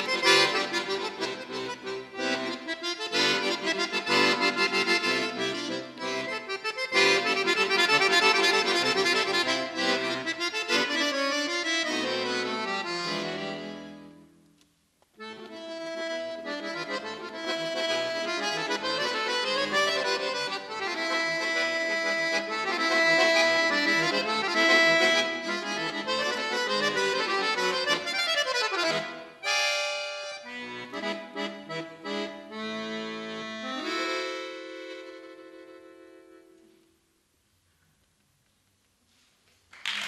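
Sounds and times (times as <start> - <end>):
button accordion playing chords: 0.0 - 14.4, 15.2 - 36.7.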